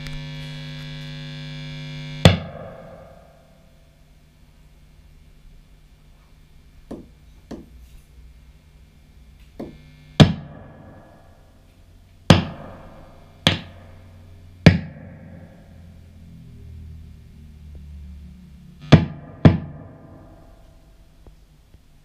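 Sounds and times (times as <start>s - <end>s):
amplifier humming faintly: 0.0s - 22.0s.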